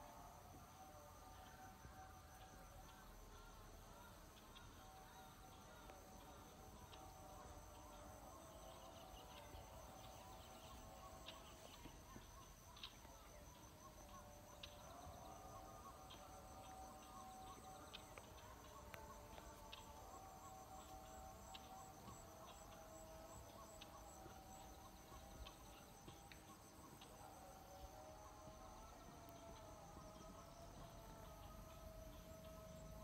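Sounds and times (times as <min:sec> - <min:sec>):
low wavering insect tones: 0:01.8 - 0:33.0
insects trilling: 0:02.2 - 0:33.0.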